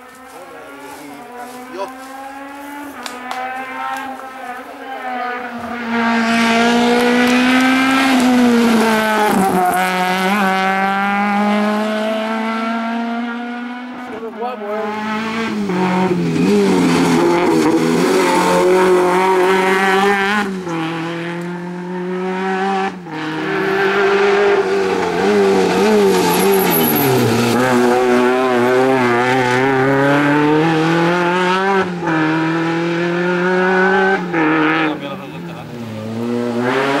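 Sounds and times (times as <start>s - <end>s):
rally car engine revving hard: 0.2s - 37.0s.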